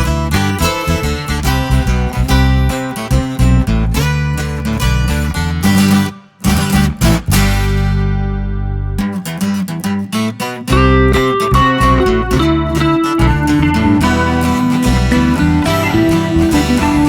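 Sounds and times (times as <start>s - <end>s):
strummed acoustic guitar music: 0.0s - 17.0s.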